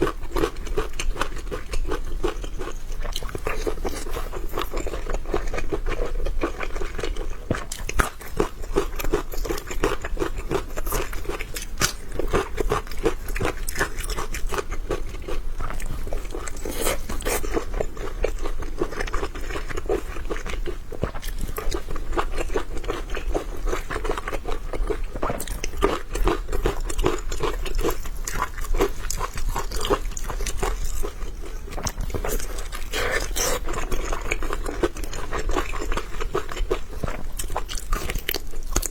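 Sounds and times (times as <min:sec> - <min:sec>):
biting and wet chewing: 0:00.0 - 0:38.9.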